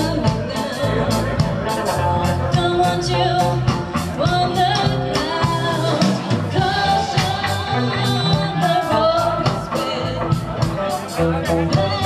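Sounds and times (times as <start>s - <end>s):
bass guitar: 0.0s - 12.0s
drums beating: 0.0s - 12.0s
electric guitar: 0.0s - 12.0s
person singing: 0.0s - 12.0s.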